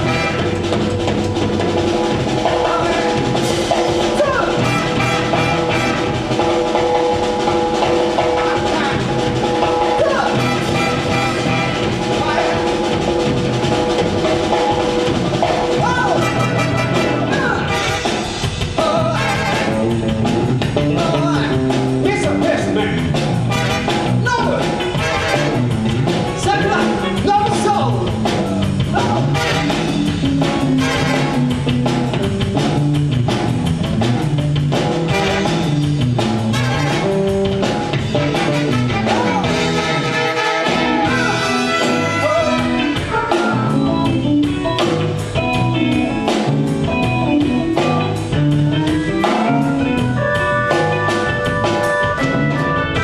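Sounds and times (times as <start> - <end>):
live band playing upbeat music: 0.0 - 53.0.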